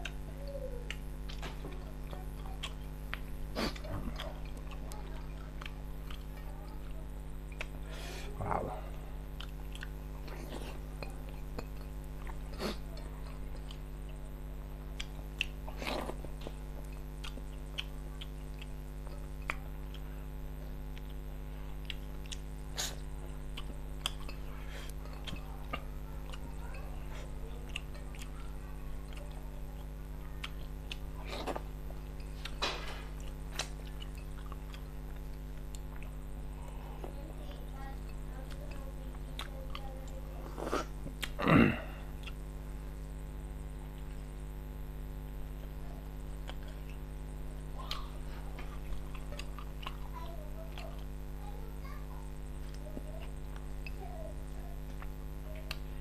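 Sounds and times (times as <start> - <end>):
wet chewing and lip-smacking: 0.0 - 7.9, 9.3 - 36.8, 37.5 - 41.4, 42.2 - 42.6, 45.5 - 51.4, 52.4 - 56.0
steady low hum: 0.0 - 56.0.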